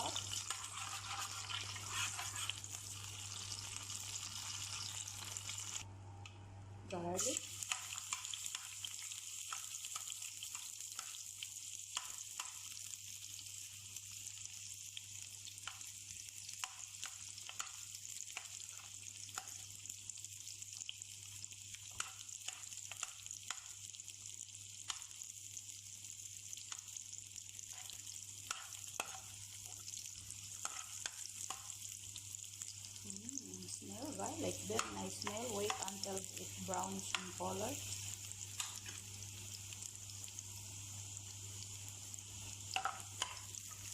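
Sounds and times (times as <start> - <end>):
garlic sizzling in hot oil: 0.0 - 5.9, 6.9 - 43.9.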